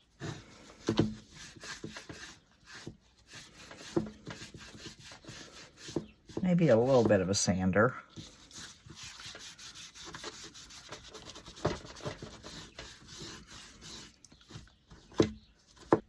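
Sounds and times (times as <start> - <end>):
sanding a wooden board: 0.0 - 7.3, 8.2 - 14.6.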